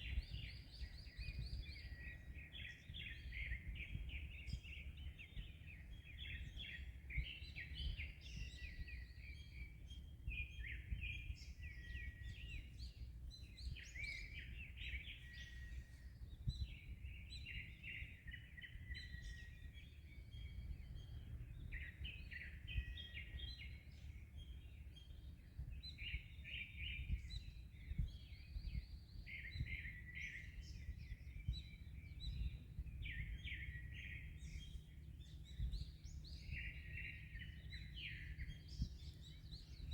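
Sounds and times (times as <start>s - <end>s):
small birds chirping: 0.0s - 39.9s
wind: 0.0s - 39.9s.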